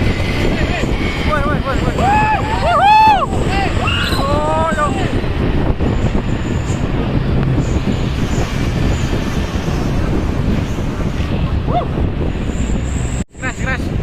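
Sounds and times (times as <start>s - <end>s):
heavy truck engine running: 0.0s - 13.2s
road rumble: 0.0s - 14.0s.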